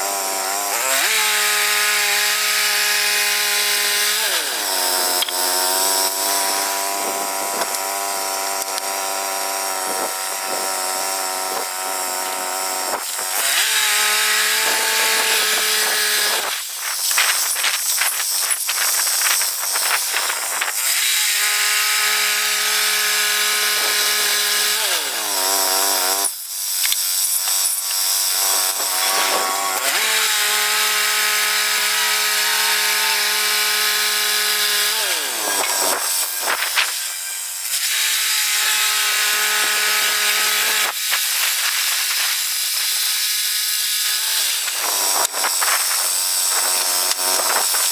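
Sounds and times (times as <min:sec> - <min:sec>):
saw blade cutting log: 0:00.0 - 0:47.9.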